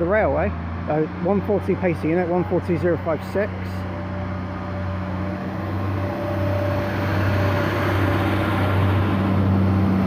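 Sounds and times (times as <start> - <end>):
diesel train engines: 0.0 - 10.0.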